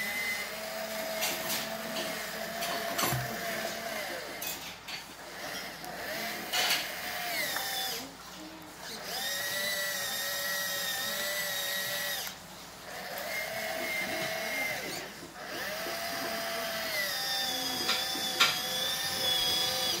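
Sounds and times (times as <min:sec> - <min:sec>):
toy truck motor whining: 0:00.0 - 0:08.2, 0:08.8 - 0:20.0.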